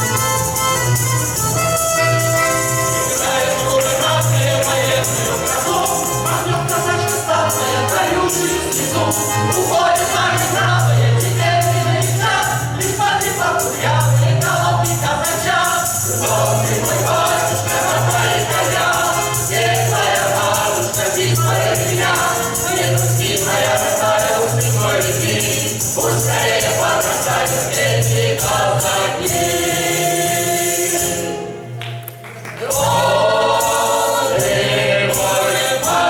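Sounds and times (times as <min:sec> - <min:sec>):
folk choir singing: 0:00.0 - 0:36.0
tambourine beat: 0:00.0 - 0:36.0.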